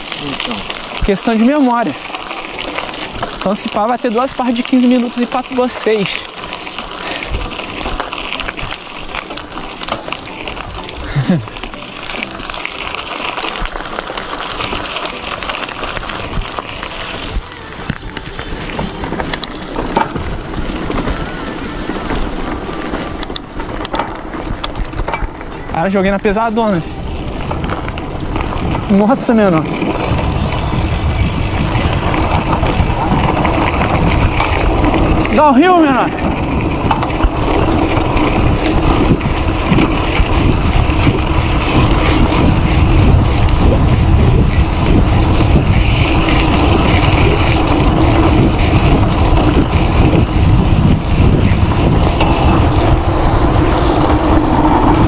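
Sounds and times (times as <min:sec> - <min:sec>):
bike tyres rolling on gravel: 0:00.0 - 0:55.0
wind buffeting microphone: 0:00.0 - 0:55.0.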